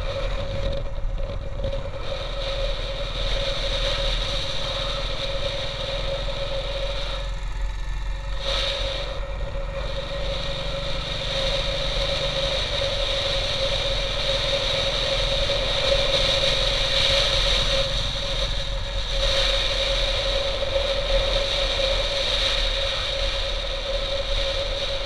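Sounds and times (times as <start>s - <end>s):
motorcycle engine running: 0.0s - 25.0s
rushing wind noise: 0.0s - 25.0s.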